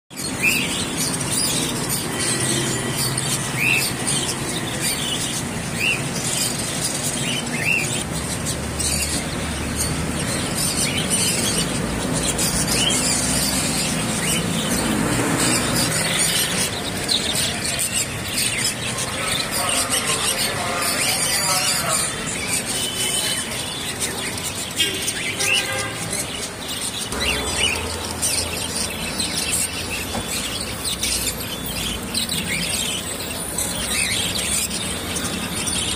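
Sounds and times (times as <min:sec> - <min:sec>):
caged birds chirping: 0:00.1 - 0:35.9
high squealing bird calls: 0:00.1 - 0:35.9
steady background noise: 0:00.1 - 0:35.9.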